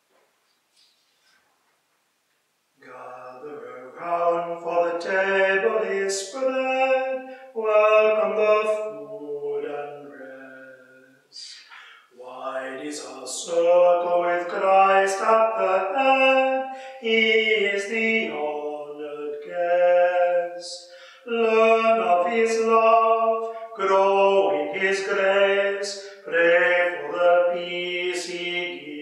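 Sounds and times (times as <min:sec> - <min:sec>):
man singing a hymn: 0:02.8 - 0:29.0.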